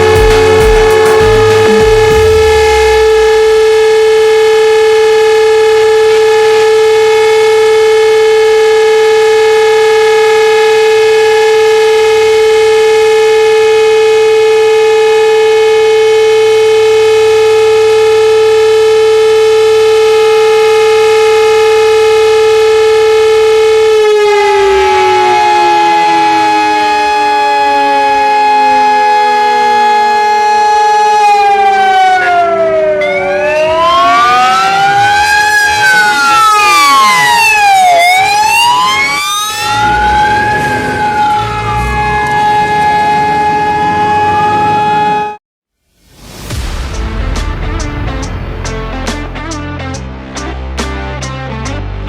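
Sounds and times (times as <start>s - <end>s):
fire alarm siren: 0.0s - 45.4s.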